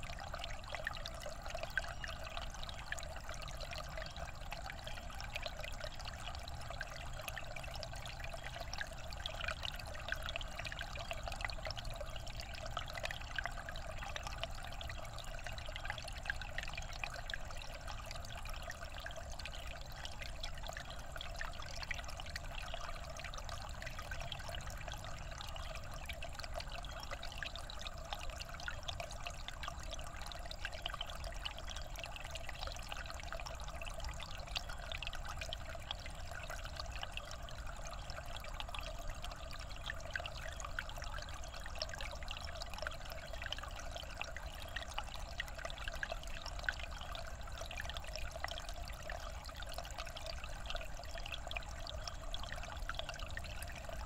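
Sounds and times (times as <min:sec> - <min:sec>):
creek water trickling over rocks: 0:00.0 - 0:54.0.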